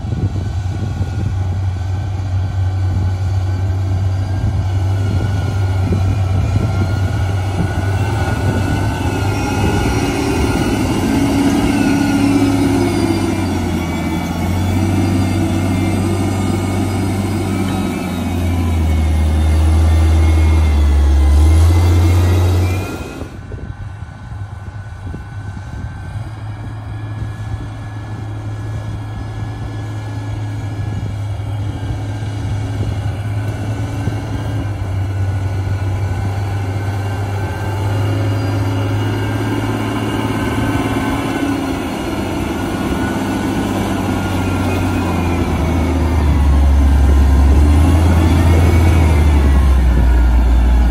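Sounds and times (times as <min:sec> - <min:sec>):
diesel engine working under load: 0:00.0 - 0:50.9.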